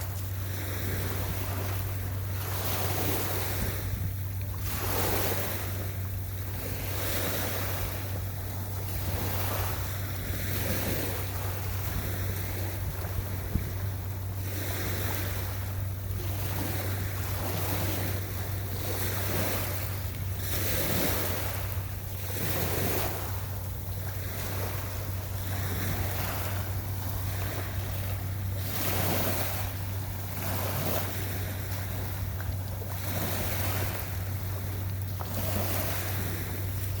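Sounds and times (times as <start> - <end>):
steady low hum: 0.0 - 37.0
waves washing on beach: 0.0 - 37.0
wind: 0.0 - 37.0.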